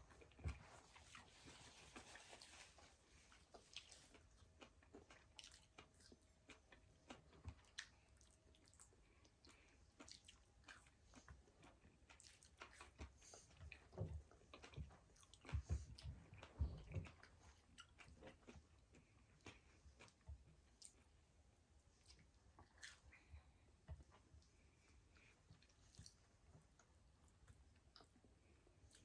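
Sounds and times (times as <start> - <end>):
chewing: 0.1 - 21.2, 22.0 - 29.0.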